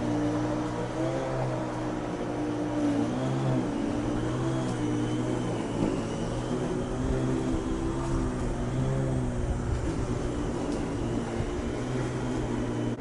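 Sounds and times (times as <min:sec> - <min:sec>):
droning engine hum: 0:00.0 - 0:13.0.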